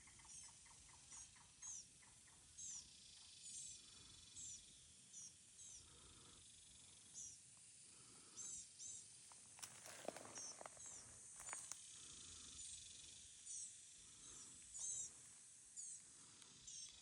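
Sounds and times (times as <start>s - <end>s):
high insect drone: 0.1s - 17.0s.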